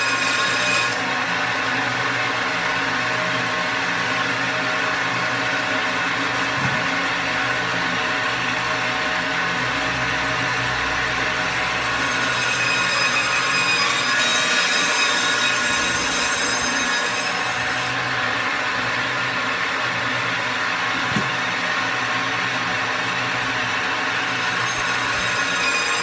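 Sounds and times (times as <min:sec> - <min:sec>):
band saw cutting: 0:00.0 - 0:26.0.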